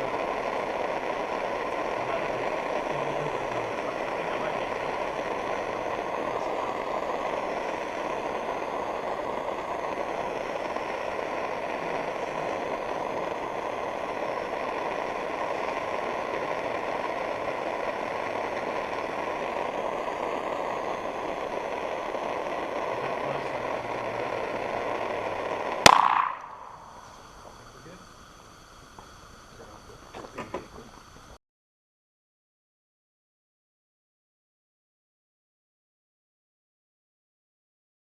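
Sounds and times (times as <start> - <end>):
cartridge cooking off: 0.0 - 31.4
torch flame rushing: 0.0 - 31.4.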